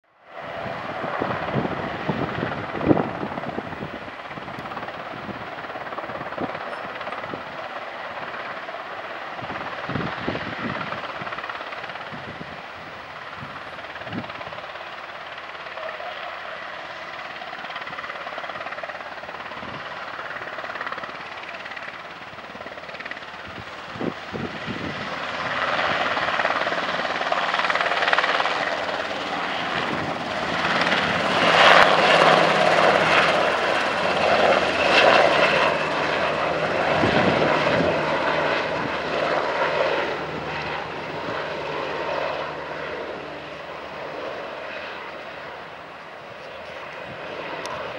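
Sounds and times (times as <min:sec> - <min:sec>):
helicopter rotor and turbine: 0:00.0 - 0:47.9.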